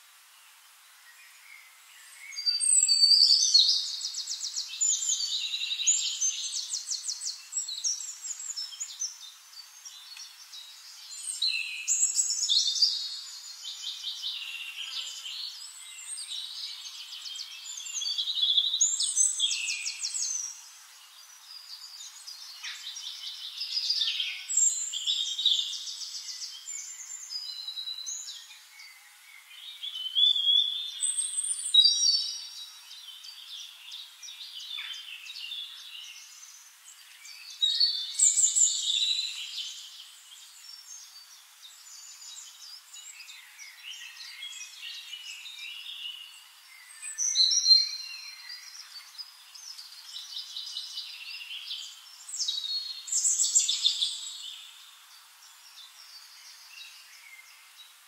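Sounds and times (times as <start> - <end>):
songbird singing trills: 1.0 - 58.0.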